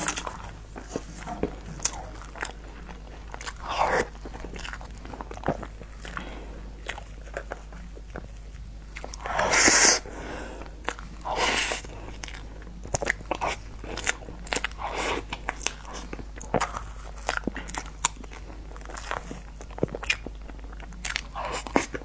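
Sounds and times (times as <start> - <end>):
wet mouth eating sounds: 0.0 - 22.0.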